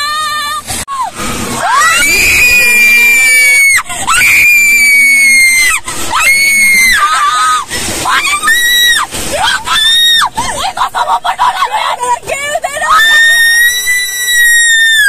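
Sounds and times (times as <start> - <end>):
woman screaming: 0.0 - 15.0.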